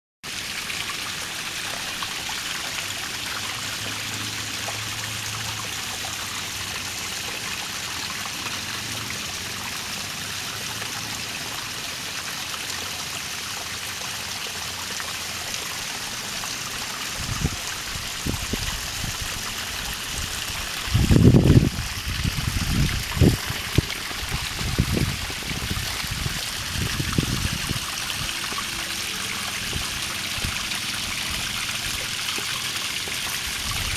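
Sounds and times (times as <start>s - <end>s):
stream trickling over rocks: 0.2s - 33.9s.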